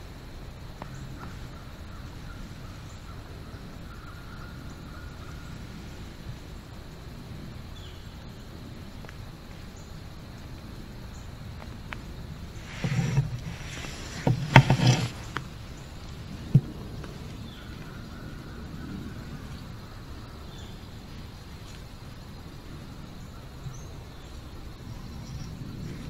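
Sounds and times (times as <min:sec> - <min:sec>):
low rumble and hiss: 0:00.0 - 0:26.0.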